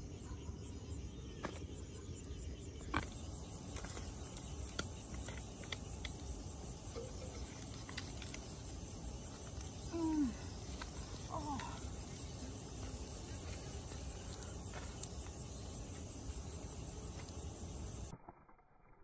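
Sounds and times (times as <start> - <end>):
crickets chirring: 0.0 - 18.4.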